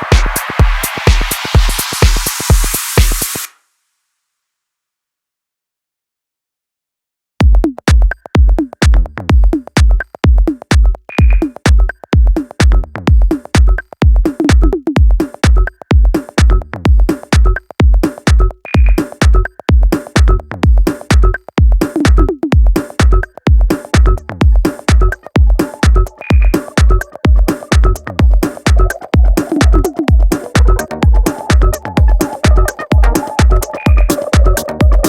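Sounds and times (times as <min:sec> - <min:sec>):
electronic dance music: 0:00.0 - 0:03.5, 0:07.5 - 0:35.0.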